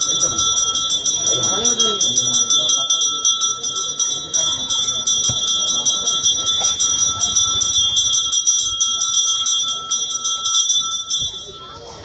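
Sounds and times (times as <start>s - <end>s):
bell rung rapidly: 0.0s - 11.9s.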